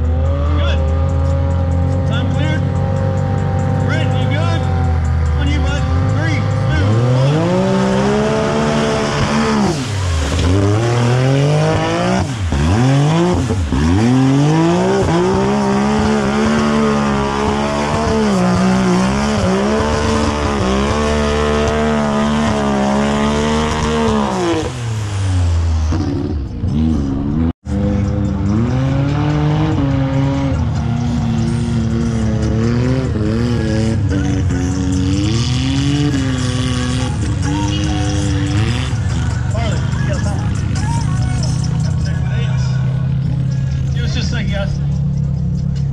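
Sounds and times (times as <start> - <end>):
engine revving hard: 0.0 - 44.6.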